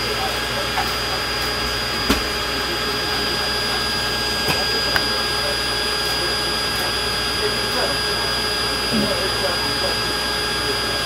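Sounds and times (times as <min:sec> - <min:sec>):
aircraft cabin machine whine: 0:00.0 - 0:11.0.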